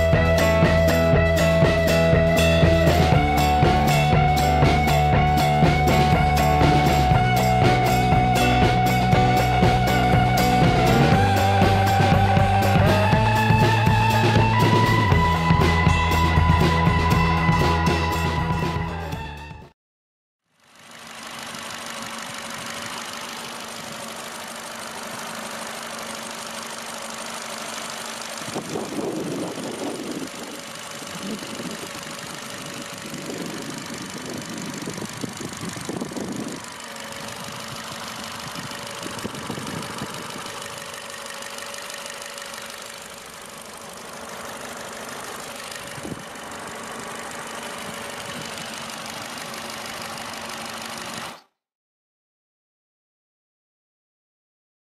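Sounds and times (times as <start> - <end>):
car engine idling: 0.0 - 19.3, 20.6 - 51.4.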